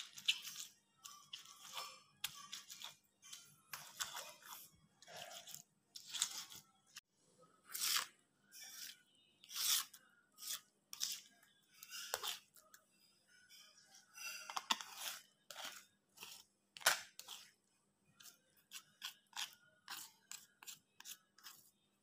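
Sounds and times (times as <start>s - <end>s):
spatula scraping paste: 0.0s - 22.0s.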